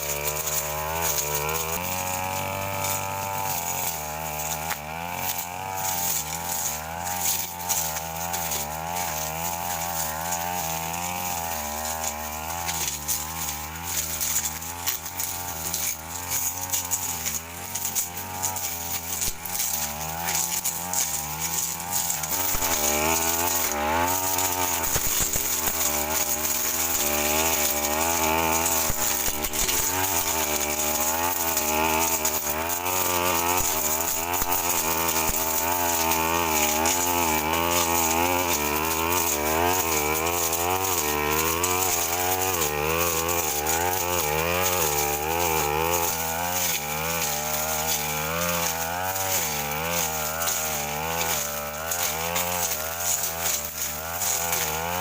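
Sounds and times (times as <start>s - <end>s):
brush cutter engine running hard: 0.0s - 55.0s.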